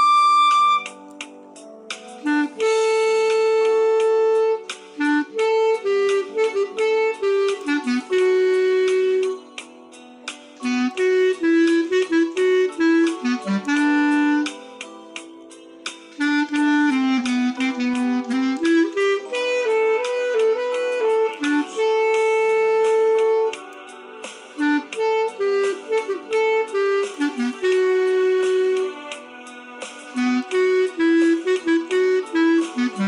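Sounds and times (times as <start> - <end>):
solo clarinet melody: 0.0 - 1.0, 2.2 - 9.5, 10.6 - 14.6, 16.2 - 23.7, 24.6 - 29.2, 30.1 - 33.0.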